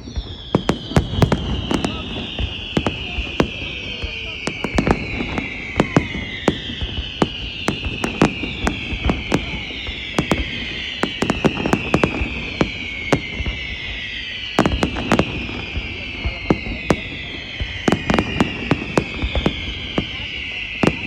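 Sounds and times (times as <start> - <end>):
firework bangs: 0.0 - 21.0
whistling firework shells: 0.0 - 21.0.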